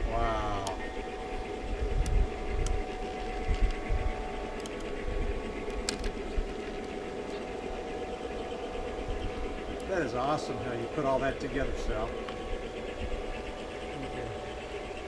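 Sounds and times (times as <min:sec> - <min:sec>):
electric motors humming: 0:00.0 - 0:15.0
uneven low rumble: 0:00.0 - 0:15.0.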